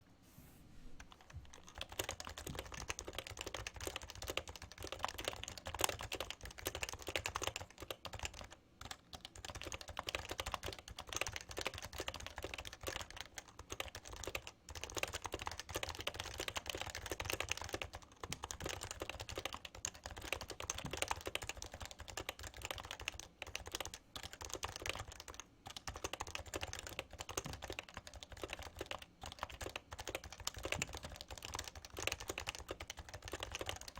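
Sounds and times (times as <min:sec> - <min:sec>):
fast keyboard typing: 0:01.0 - 0:33.9.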